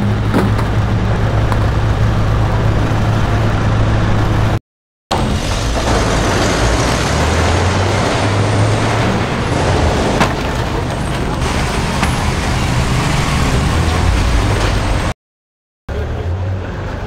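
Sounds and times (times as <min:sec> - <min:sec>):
car engines running hard: 0:00.0 - 0:15.2, 0:15.9 - 0:17.0.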